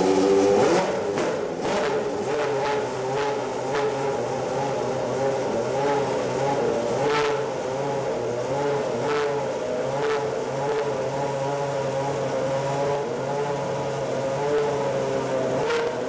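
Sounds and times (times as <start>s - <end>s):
racing car engine idling: 0.0s - 16.0s.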